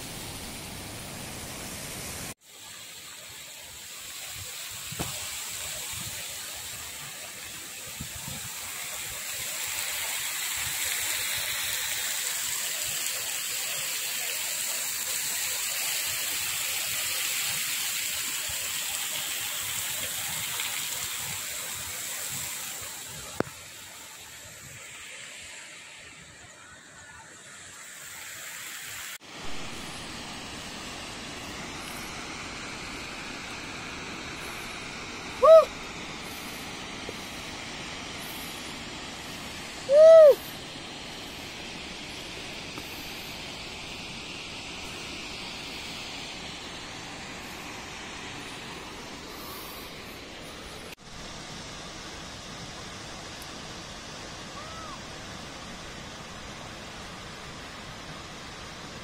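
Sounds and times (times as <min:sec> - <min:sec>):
waterfall rushing hiss: 0:00.0 - 0:59.0.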